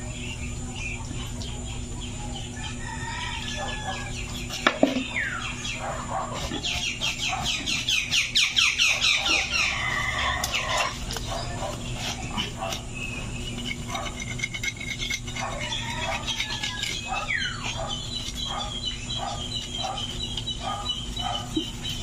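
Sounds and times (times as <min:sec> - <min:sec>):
chickens clucking: 0:01.0 - 0:14.1, 0:15.3 - 0:22.0.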